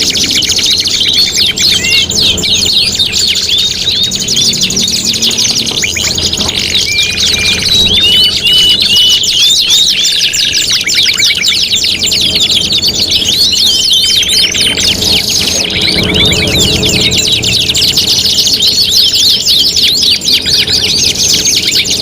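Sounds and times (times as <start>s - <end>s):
canaries singing: 0.0s - 22.0s.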